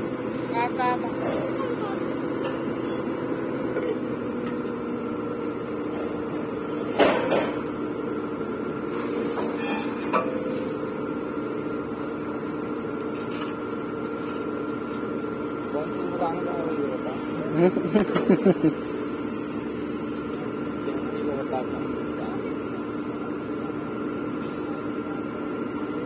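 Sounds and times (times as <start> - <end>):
drilling rig humming: 0.0 - 26.0.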